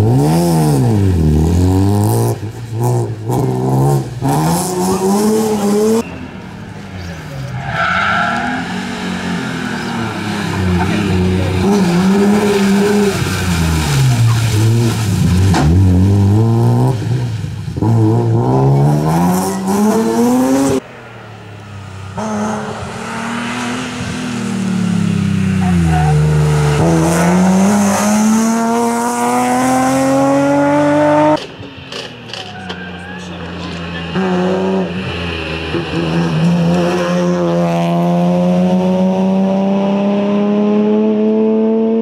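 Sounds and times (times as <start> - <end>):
rally car engine revving: 0.0 - 21.0, 21.7 - 42.0.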